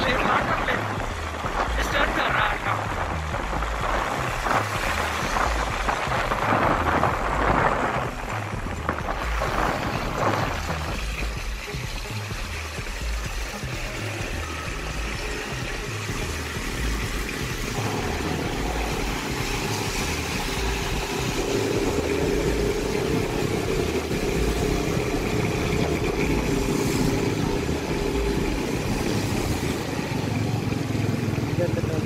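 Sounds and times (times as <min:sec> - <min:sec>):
rain: 0:00.0 - 0:32.0
vehicle engine running: 0:00.0 - 0:32.0
wet tyres hissing on road: 0:00.0 - 0:32.0.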